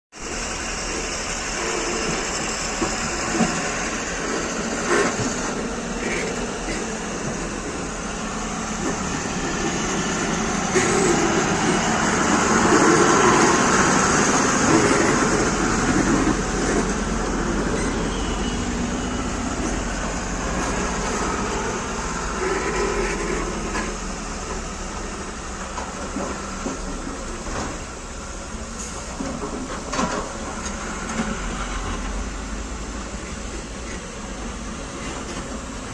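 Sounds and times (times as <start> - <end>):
heavy vehicle engine droning: 0.2 - 35.9.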